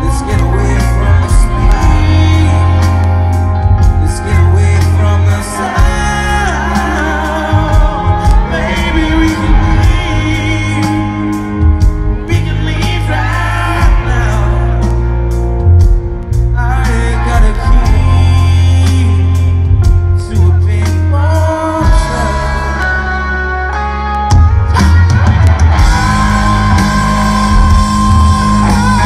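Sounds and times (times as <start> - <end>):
man singing: 0.0 - 15.3, 16.3 - 23.7, 25.8 - 29.0
live rock band playing: 0.0 - 29.0.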